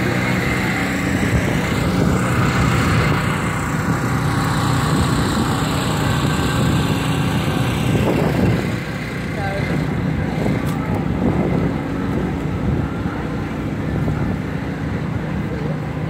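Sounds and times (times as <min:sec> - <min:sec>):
generator running: 0:00.0 - 0:16.0.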